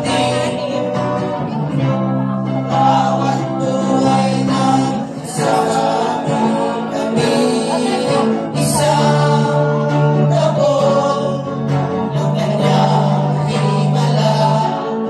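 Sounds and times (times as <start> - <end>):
electric guitar: 0.0 - 15.0
men singing together: 0.0 - 15.0.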